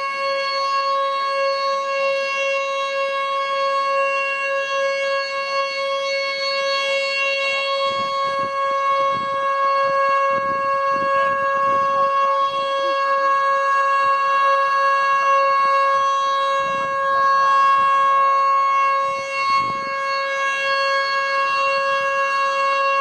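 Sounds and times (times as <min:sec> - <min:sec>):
siren steady tone: 0:00.0 - 0:23.0.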